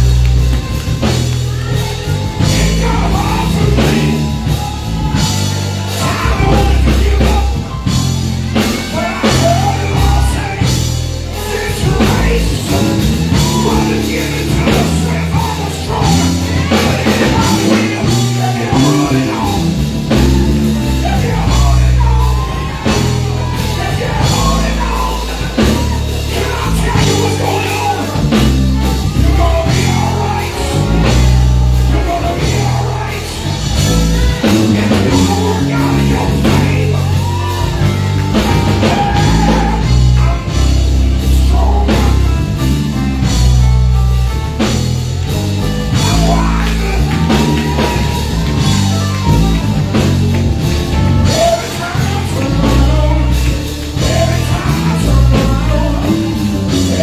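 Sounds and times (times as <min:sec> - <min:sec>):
drums: 0:00.0 - 0:57.0
electric bass line: 0:00.0 - 0:57.0
man singing into microphone: 0:02.0 - 0:04.6, 0:05.9 - 0:43.1, 0:45.8 - 0:49.4, 0:51.1 - 0:57.0.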